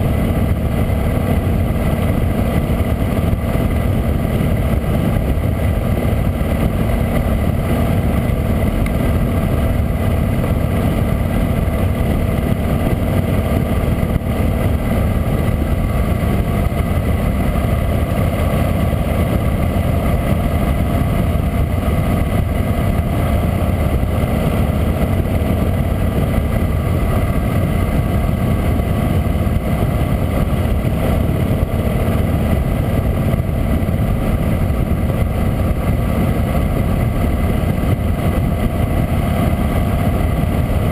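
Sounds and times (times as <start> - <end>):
motorcycle engine drone: 0.0 - 40.9
wind rush: 0.0 - 40.9.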